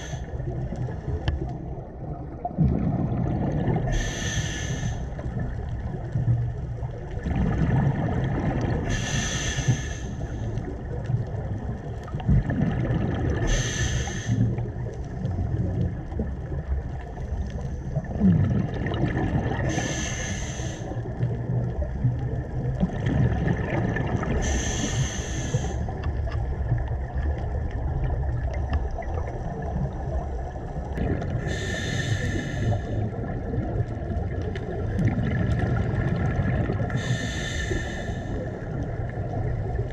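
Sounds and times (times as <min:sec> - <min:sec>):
exhaled bubbles underwater: 0:00.0 - 0:39.9
low underwater rumble: 0:00.0 - 0:39.9.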